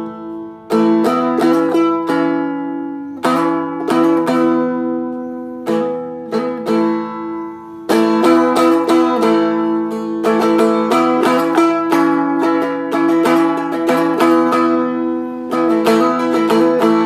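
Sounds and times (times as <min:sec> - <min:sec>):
strummed dulcimer chords: 0:00.0 - 0:17.0.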